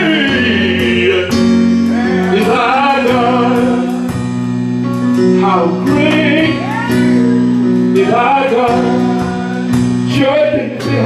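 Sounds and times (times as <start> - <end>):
gospel singing voices: 0.0 - 11.0.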